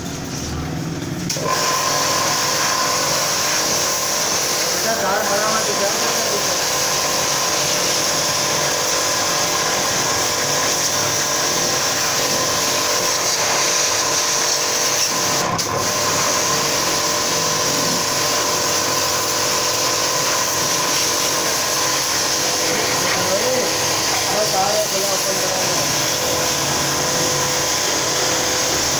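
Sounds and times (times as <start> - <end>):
water spray hissing: 1.3 - 28.9.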